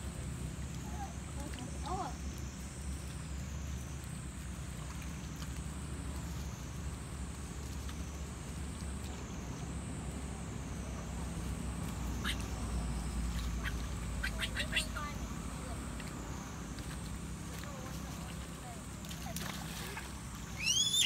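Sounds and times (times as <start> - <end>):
monkeys splashing in water: 0.3 - 21.0.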